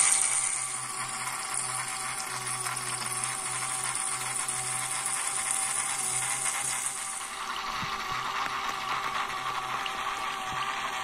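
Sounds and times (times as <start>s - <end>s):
small pump humming: 0.0s - 11.0s.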